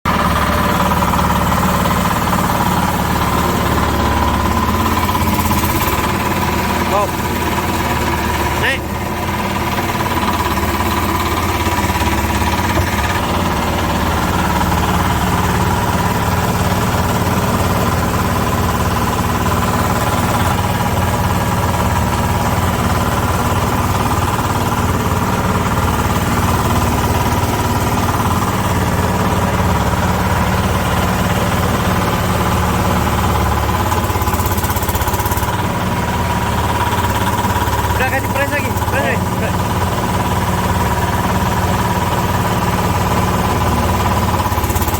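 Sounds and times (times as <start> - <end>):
hydraulic power unit humming: 0.1 - 44.9.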